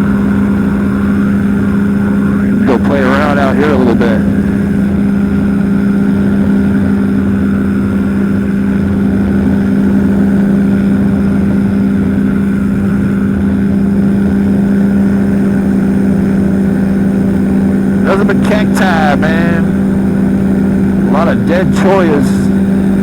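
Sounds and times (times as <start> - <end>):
engine and propeller running: 0.0 - 23.0.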